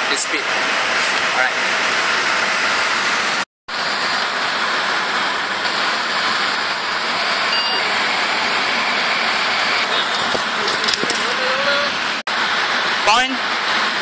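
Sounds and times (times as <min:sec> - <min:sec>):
road traffic hiss: 0:00.0 - 0:14.0.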